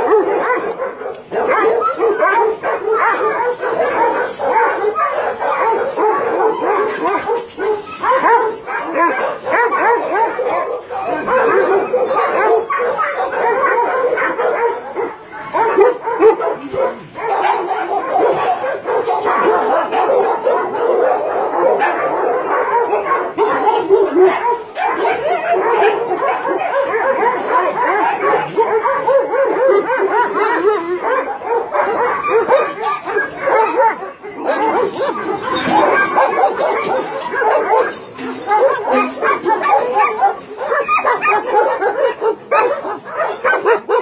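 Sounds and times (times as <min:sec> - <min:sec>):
many dogs barking and whimpering: 0:00.0 - 0:44.0.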